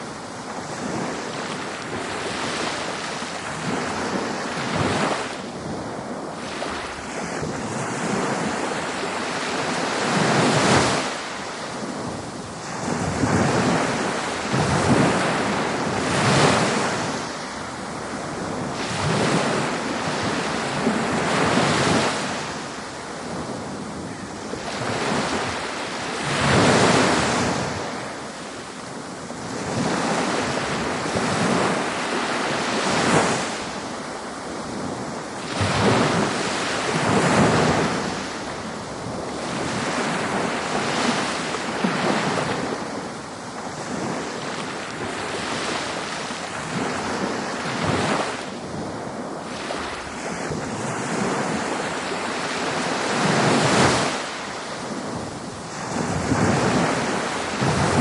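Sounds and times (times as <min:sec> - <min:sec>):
ocean waves breaking on beach: 0:00.0 - 0:58.0.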